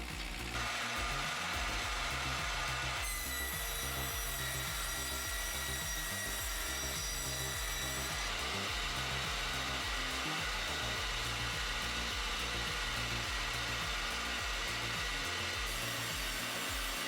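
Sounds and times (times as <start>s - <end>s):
power saw cutting wood: 0.0s - 17.0s.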